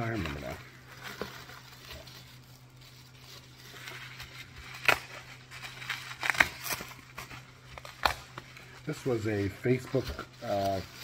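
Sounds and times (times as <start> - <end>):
bubble wrap and paper crinkling: 0.0 - 11.0.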